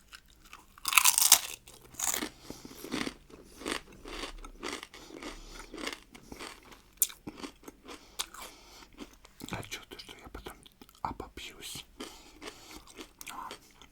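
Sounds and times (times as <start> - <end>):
chewing crunchy pickle: 0.0 - 9.7, 12.0 - 13.9.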